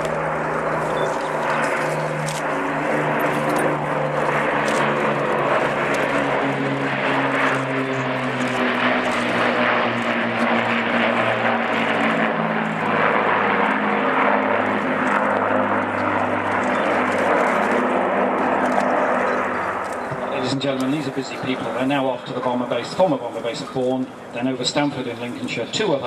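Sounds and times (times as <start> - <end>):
propeller plane engines flying past: 0.0 - 26.0.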